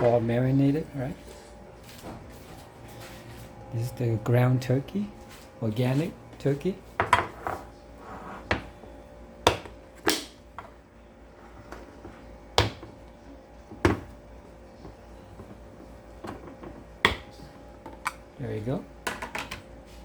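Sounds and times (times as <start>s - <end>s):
faint refrigerator hum: 0.0s - 20.0s.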